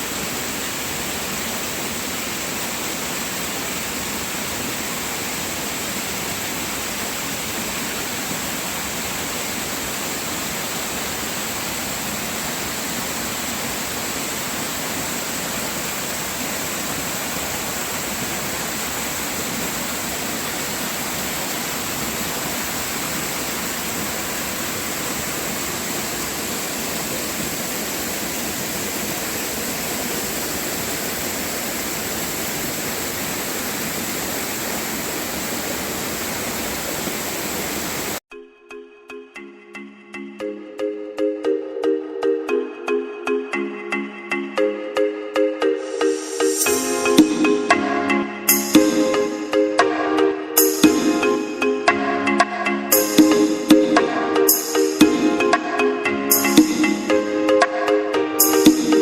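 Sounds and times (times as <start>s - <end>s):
waterfall rushing: 0.0s - 38.2s, 45.8s - 52.0s, 52.8s - 59.0s.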